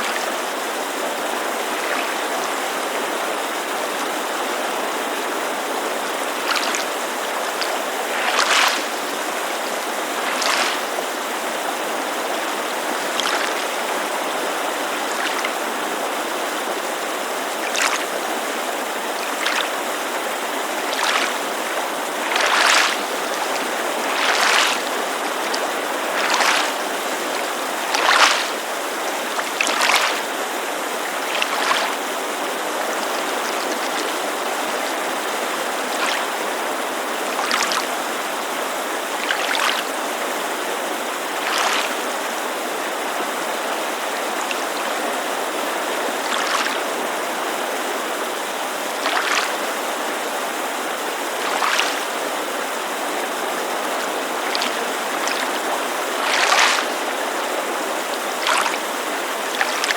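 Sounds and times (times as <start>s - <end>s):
mountain creek rushing: 0.0s - 59.9s
waves lapping against shore: 0.0s - 59.9s.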